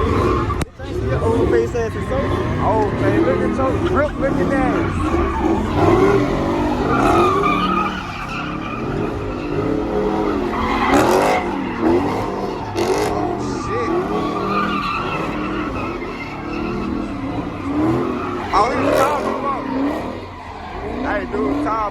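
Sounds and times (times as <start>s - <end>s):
car engine: 0.0s - 21.9s
tires squealing: 0.0s - 21.9s.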